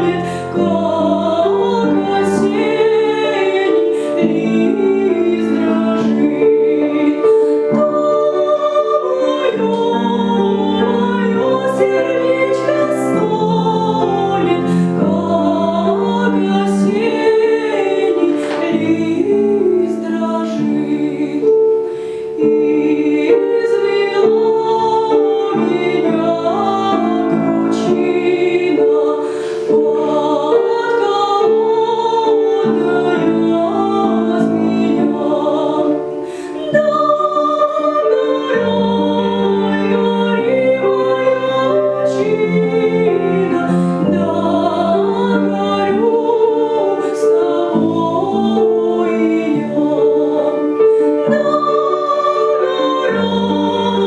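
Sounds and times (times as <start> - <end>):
piano accompaniment: 0.0 - 54.0
woman singing classically: 0.0 - 54.0.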